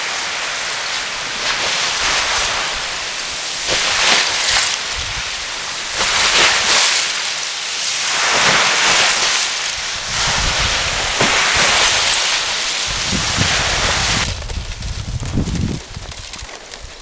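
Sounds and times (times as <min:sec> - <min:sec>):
ice slush waves washing ashore: 0:00.0 - 0:17.0.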